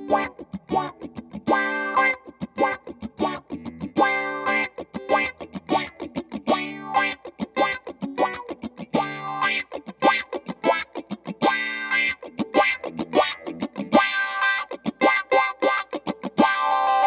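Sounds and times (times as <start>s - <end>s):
funk electric guitar with auto-wah: 0.0s - 17.0s.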